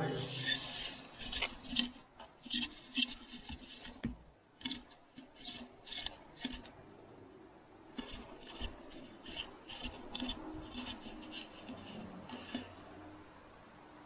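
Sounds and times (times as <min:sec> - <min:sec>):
monopod handling scraping: 0:00.0 - 0:06.9, 0:07.9 - 0:13.0.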